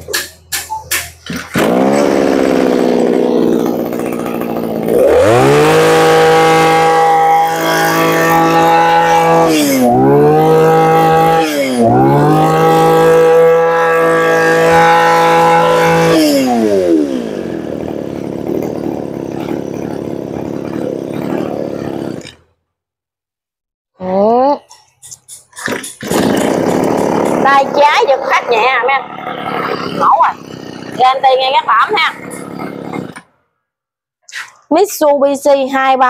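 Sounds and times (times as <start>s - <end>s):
brush-cutter engine revving: 1.2s - 22.5s, 25.7s - 33.4s.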